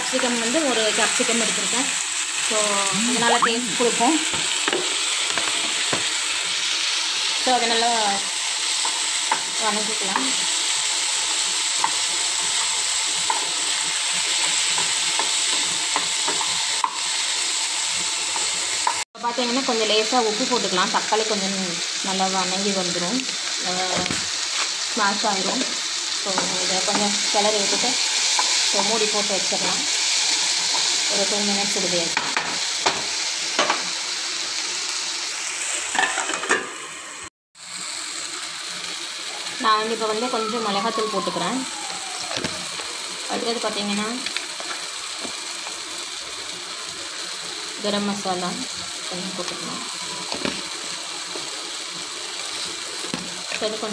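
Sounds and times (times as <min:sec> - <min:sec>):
vegetables sizzling in hot oil: 0:00.0 - 0:53.9.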